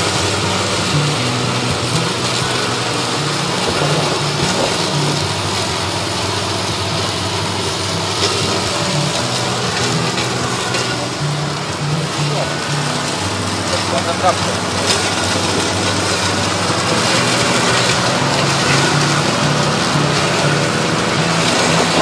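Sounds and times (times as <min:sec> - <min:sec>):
mower blades cutting tall grass: 0:00.0 - 0:22.0
riding mower engine under load: 0:00.0 - 0:22.0.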